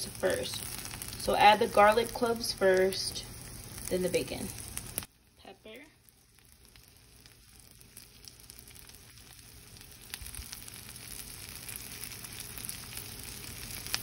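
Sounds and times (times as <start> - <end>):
vegetables sizzling in butter: 0.0 - 14.0.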